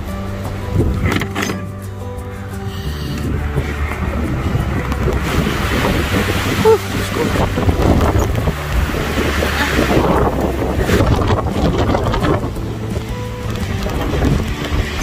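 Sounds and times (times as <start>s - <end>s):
wind gusting against microphone: 0.0s - 15.0s.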